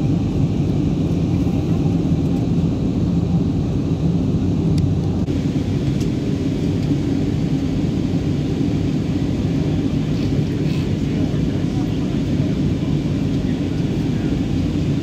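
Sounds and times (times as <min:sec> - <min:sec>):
airplane cabin noise: 0:00.0 - 0:15.0.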